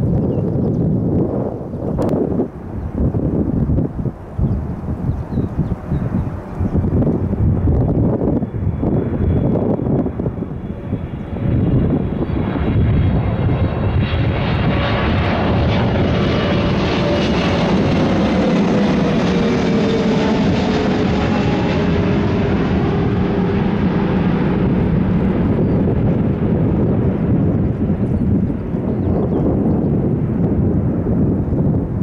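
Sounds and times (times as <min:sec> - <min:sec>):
jet aircraft roar with whine: 0:00.0 - 0:32.0.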